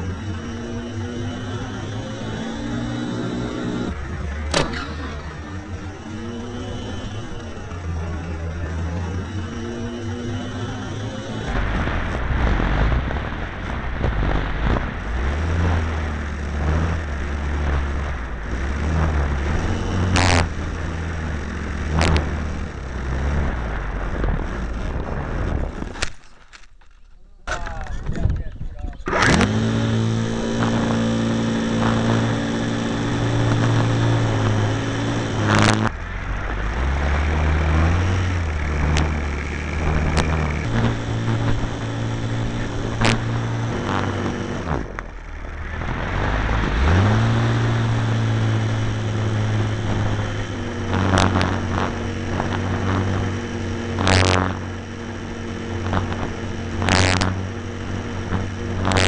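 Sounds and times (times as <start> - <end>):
model airplane motor buzzing: 0.0 - 26.7, 29.0 - 59.0
sharp cracks: 2.2 - 7.8, 11.4 - 59.0.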